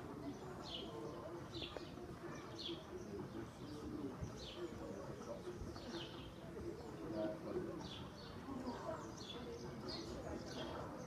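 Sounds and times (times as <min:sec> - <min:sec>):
low background murmur: 0:00.0 - 0:11.0.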